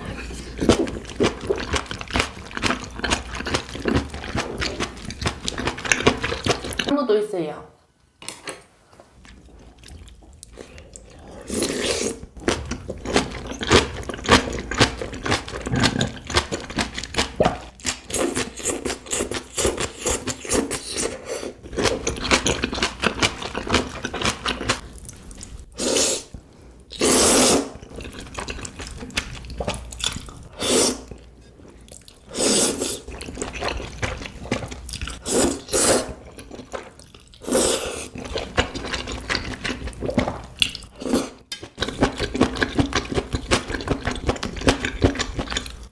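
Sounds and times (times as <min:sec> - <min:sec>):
wet chewing and crunching: 0:00.0 - 0:06.9, 0:09.2 - 0:27.0, 0:27.7 - 0:45.9.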